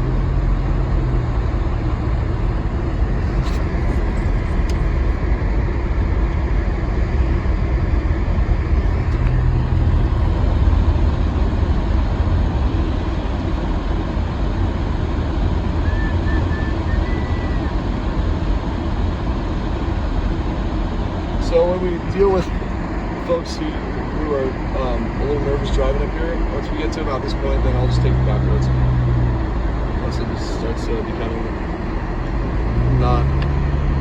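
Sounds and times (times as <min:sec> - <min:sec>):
engine and tyre rumble: 0:00.0 - 0:34.0.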